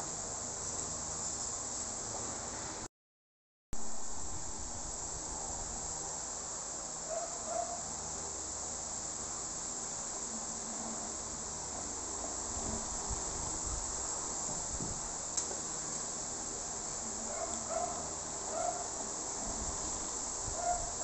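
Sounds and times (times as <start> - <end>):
insects droning: 3.8 - 21.0.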